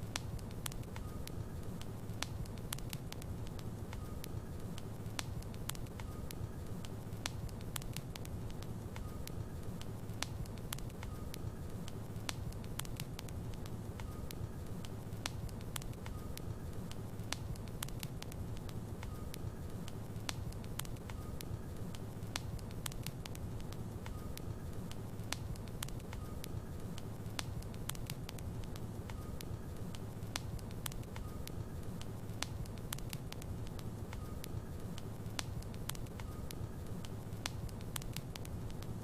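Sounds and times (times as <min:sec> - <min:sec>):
fire crackles and pops: 0:00.0 - 0:39.0
low rumble of flames: 0:00.0 - 0:39.0.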